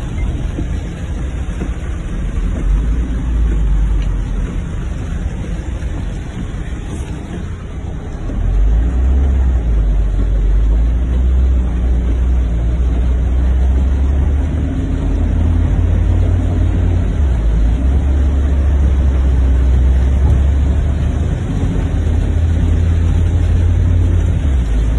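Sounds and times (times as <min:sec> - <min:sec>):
heavy rain: 0:00.0 - 0:24.9
vehicle engines rumbling: 0:00.0 - 0:24.9.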